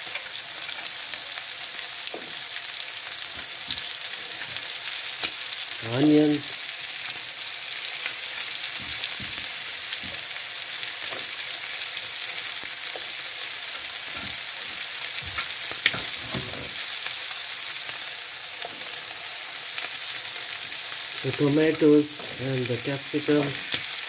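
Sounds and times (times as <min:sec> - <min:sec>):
oil sizzling in frying pan: 0:00.0 - 0:24.0.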